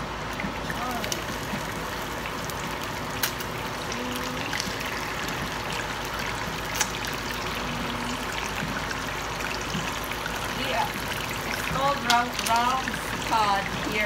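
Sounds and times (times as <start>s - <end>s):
fish sizzling in hot oil: 0.0s - 14.0s
oil crackling: 0.3s - 14.0s.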